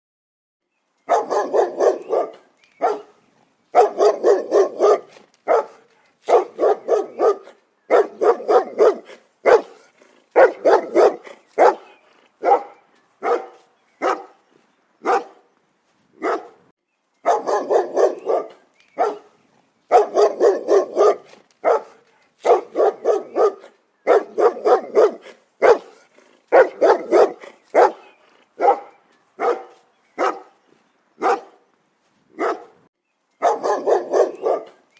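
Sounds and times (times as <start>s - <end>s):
dog barking loudly: 1.1s - 14.4s, 15.0s - 15.5s, 16.2s - 30.6s, 31.2s - 31.7s, 32.4s - 34.8s.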